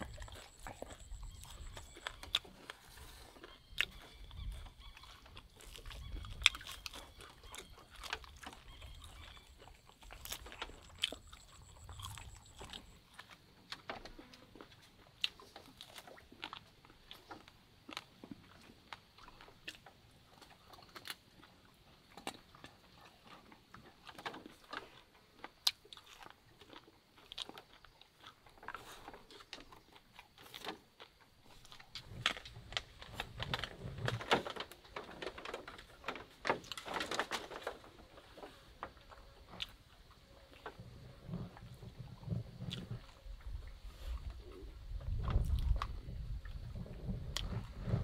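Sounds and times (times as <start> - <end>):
dog chewing and crunching bones: 0.0 - 48.0.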